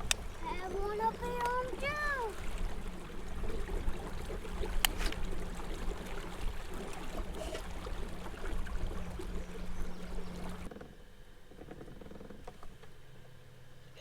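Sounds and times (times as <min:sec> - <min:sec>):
water rushing along hull: 0:00.0 - 0:13.8
boat motor humming: 0:00.0 - 0:14.0.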